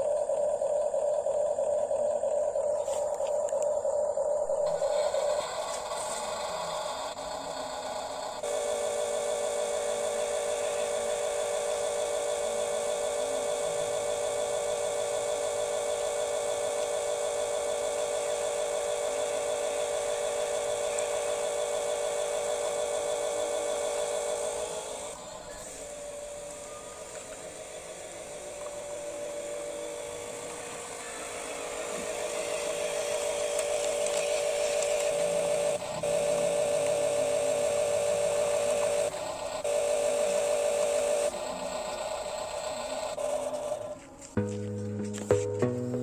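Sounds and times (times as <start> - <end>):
small electric motor whining: 0.0 - 45.3.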